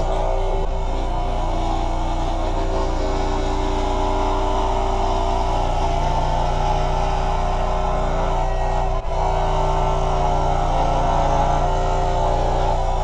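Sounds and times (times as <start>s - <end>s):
scroll saw cutting wood: 0.0s - 13.0s.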